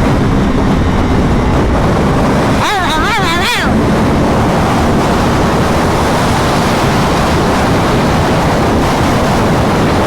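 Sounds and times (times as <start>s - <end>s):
motorcycle engine: 0.0s - 10.0s
wind rush over microphone: 0.0s - 10.0s.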